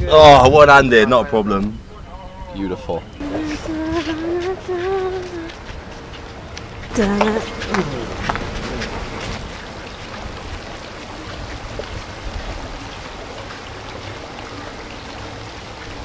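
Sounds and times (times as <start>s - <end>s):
fountain water trickling: 0.2s - 16.0s.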